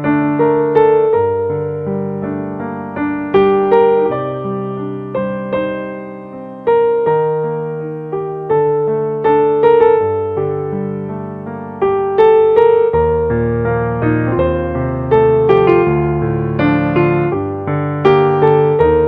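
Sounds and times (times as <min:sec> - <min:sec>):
slow soft piano notes: 0:00.0 - 0:19.0.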